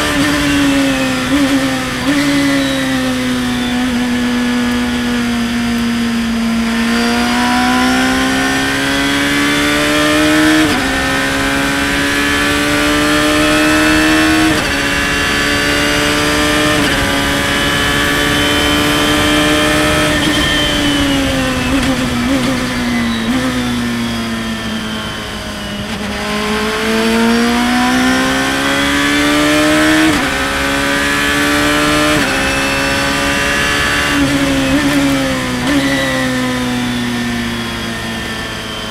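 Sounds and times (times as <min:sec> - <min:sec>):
race car engine upshifting: 0:00.0 - 0:36.7.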